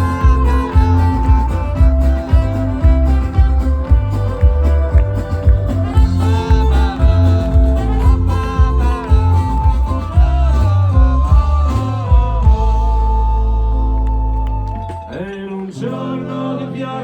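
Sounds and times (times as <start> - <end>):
folk-rock band playing: 0.0 - 15.6.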